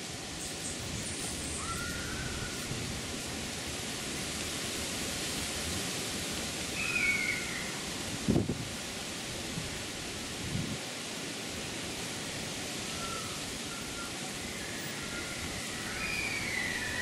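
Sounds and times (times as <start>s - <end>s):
wind in trees: 0.0s - 17.0s.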